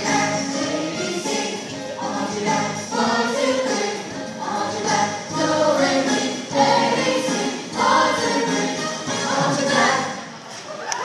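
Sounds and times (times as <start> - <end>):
choir singing upbeat song: 0.0 - 10.4
musical accompaniment: 0.0 - 10.5.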